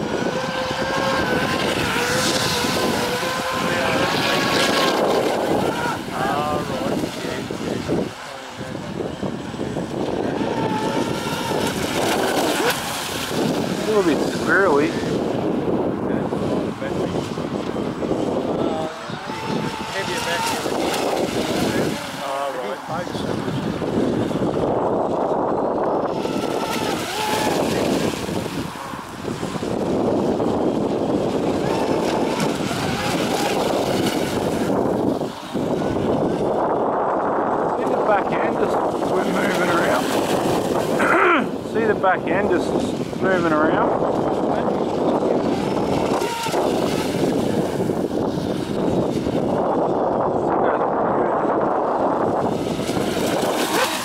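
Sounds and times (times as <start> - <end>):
model speedboat motor running: 0.0 - 54.0
wind buffeting microphone: 0.0 - 54.0.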